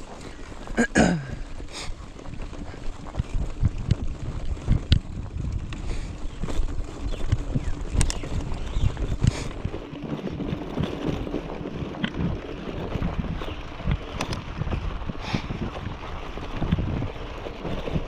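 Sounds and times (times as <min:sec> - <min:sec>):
bike knocks and rattles: 0:00.0 - 0:18.0
bike tyres crunching on stones: 0:00.0 - 0:18.0
wind on microphone: 0:01.3 - 0:18.0.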